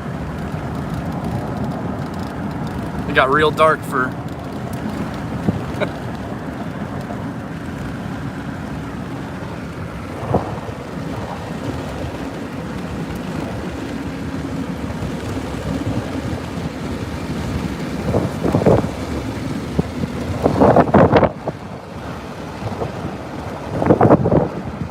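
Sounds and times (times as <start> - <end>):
road and wind noise in vehicle: 0.0 - 24.9.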